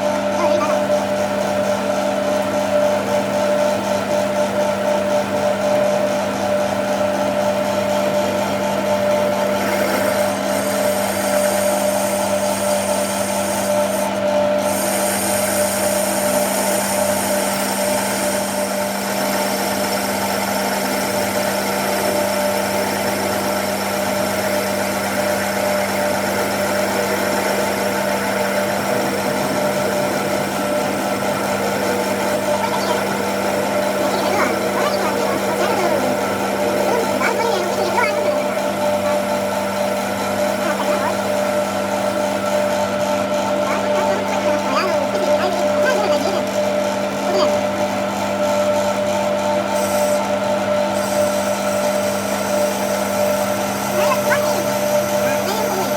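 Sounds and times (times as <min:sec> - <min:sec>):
shop machine motor humming: 0:00.0 - 0:55.9.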